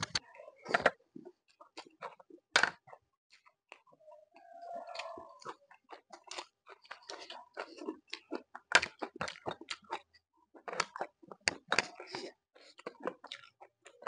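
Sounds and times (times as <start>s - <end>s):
chewing with wet clicks: 0.2s - 14.0s.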